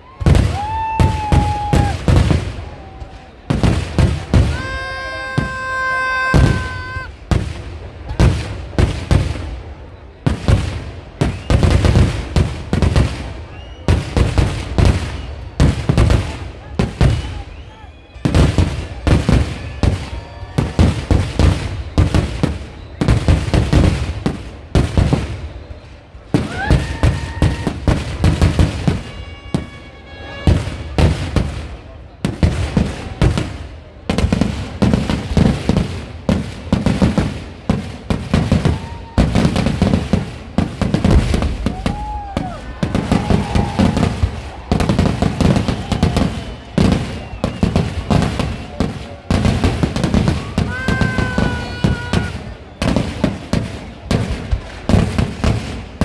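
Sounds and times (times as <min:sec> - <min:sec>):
crowd voices: 0:00.0 - 0:56.0
fireworks banging: 0:00.0 - 0:56.0.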